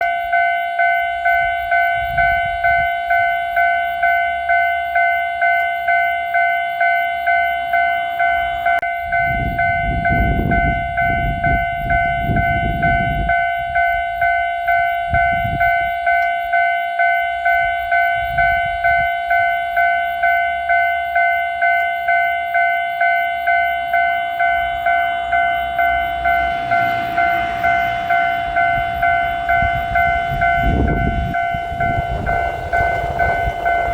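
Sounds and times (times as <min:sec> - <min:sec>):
train rumble: 0:00.0 - 0:16.6, 0:17.2 - 0:33.9
level crossing bell ringing: 0:00.1 - 0:33.9.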